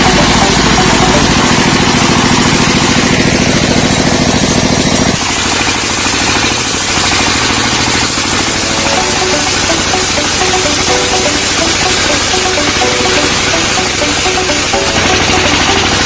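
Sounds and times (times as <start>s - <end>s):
engine running with pulsing beat: 0.0s - 16.0s.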